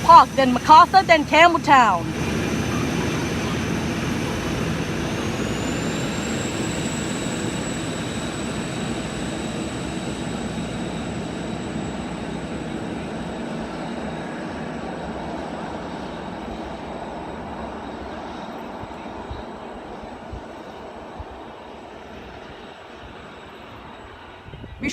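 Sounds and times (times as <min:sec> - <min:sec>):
diesel railcar engine whine: 0:00.0 - 0:24.9.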